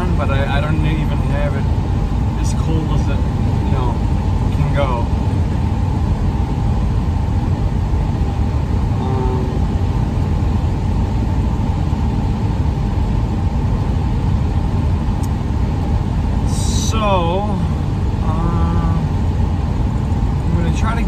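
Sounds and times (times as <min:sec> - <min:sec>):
air conditioning running: 0:00.0 - 0:21.0
road and engine rumble: 0:00.0 - 0:21.0.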